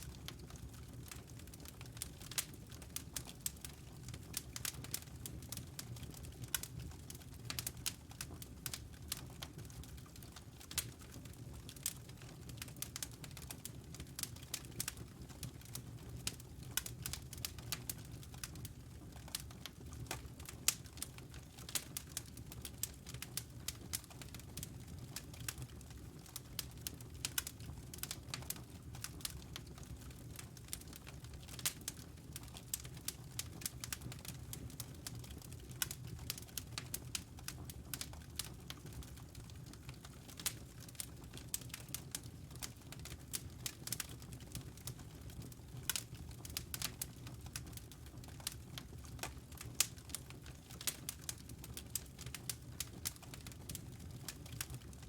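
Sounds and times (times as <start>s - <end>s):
wood logs crackling in fireplace: 0.0s - 55.0s.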